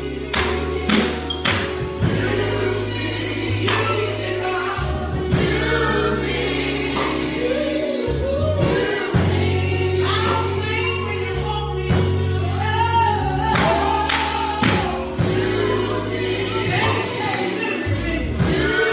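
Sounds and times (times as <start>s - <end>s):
band playing: 0.0s - 18.9s
bass line: 0.0s - 18.9s
choir singing gospel: 0.0s - 18.9s
steady drum beat: 0.0s - 18.9s.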